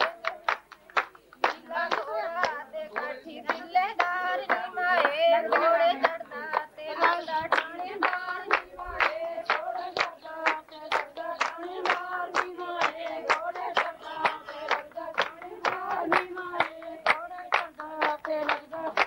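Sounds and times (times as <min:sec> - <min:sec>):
handclaps: 0:00.0 - 0:19.0
women singing folk song: 0:00.0 - 0:19.0.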